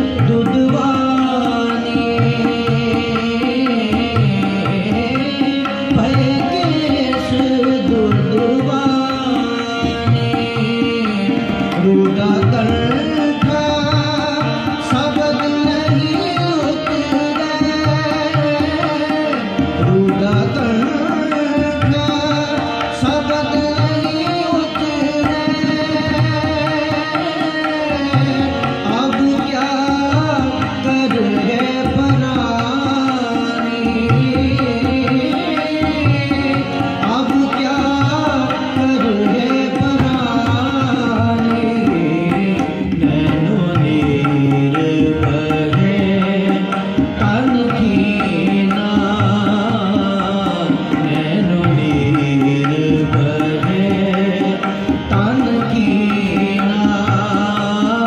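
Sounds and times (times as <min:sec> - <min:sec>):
harmonium chords and melody: 0:00.0 - 0:58.0
tabla rhythm: 0:00.0 - 0:58.0.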